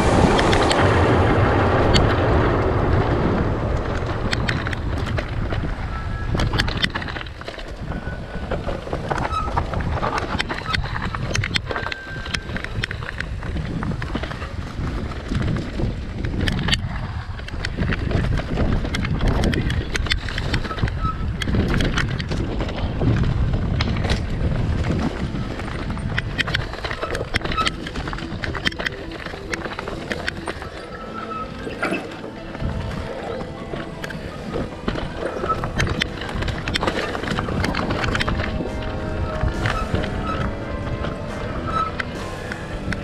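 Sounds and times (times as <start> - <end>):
bike clicks and rattles: 0.0 - 43.0
steady low rumble: 0.0 - 43.0
tyres grinding over loose rock: 0.0 - 43.0.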